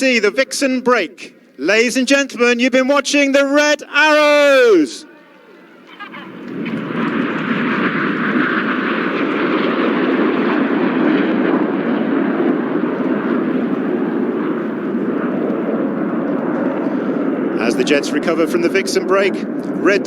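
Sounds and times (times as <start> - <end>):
jets flying low: 3.8 - 20.0.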